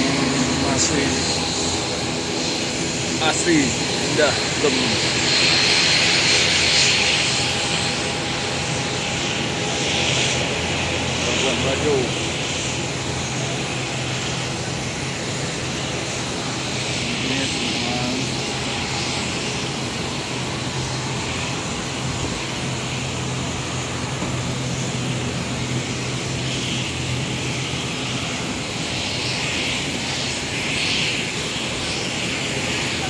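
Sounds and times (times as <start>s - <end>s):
jet airliner drone: 0.0s - 33.0s.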